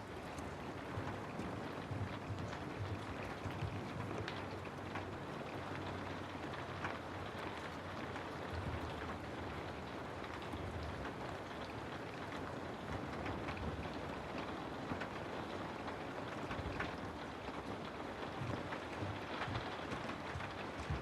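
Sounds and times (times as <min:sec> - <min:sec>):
steady rain hissing: 0:00.0 - 0:21.0.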